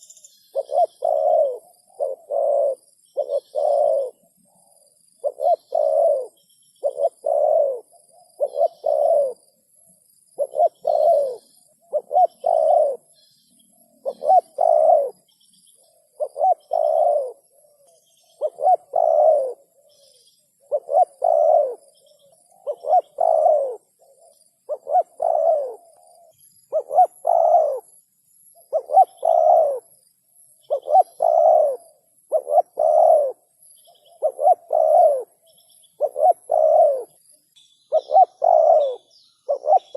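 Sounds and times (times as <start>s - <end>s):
dove cooing: 0.0s - 37.3s, 37.9s - 39.9s.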